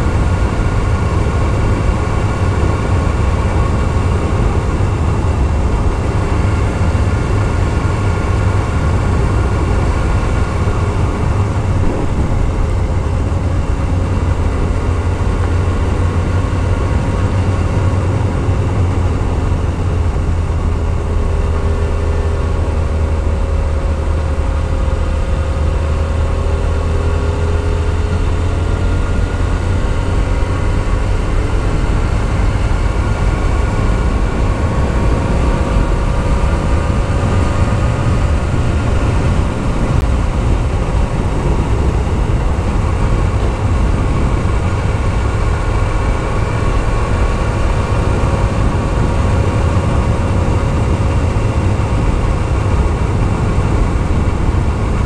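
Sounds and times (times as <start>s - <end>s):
motorcycle engine cruising: 0.0s - 55.0s
wind rumble on microphone: 0.0s - 55.0s.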